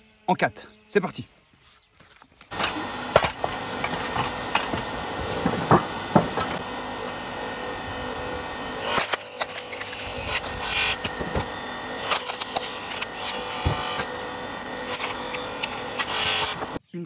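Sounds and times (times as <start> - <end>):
log splitter motor humming: 2.5 - 16.8.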